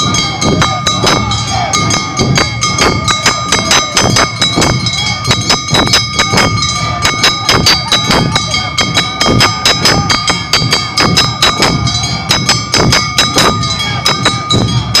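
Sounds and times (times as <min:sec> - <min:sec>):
drum and gong strikes: 0:00.0 - 0:15.0
ringing high tones: 0:00.0 - 0:15.0.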